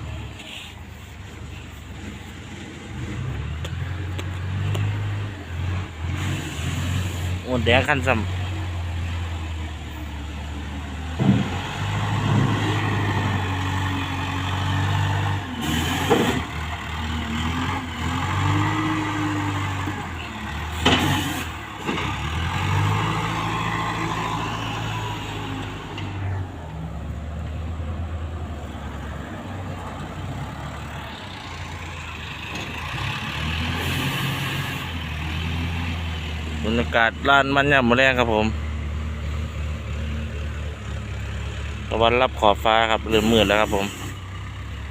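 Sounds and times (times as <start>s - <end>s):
wheel loader diesel engine revving: 0.0s - 44.9s.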